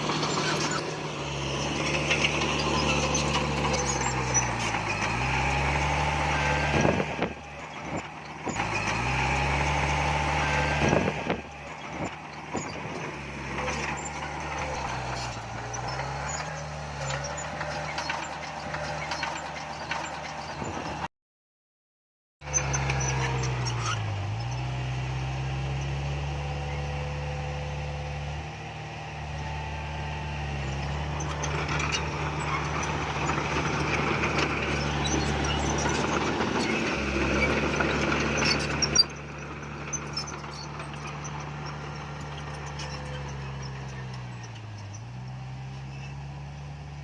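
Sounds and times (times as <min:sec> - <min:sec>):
diesel engine running: 0:00.0 - 0:21.1, 0:22.4 - 0:47.0.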